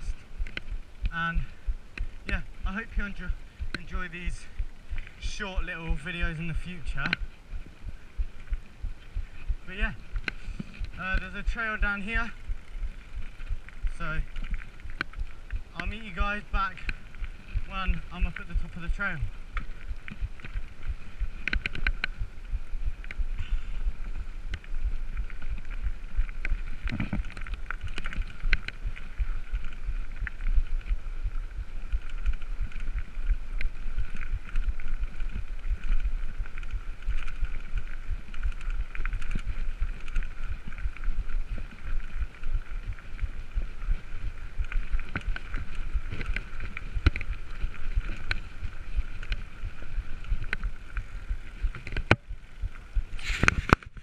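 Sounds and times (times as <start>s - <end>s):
bike rattling over bumps: 0.0s - 54.0s
wind and tyres on gravel: 0.0s - 54.0s.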